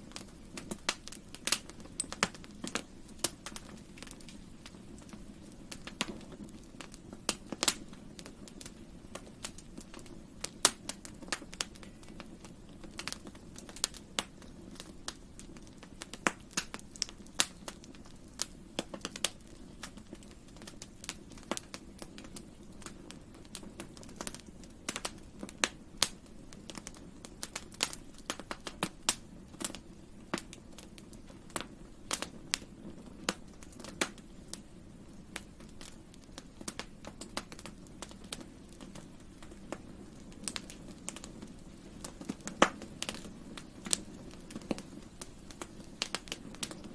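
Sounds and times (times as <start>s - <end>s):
campfire crackling: 0.0s - 46.9s.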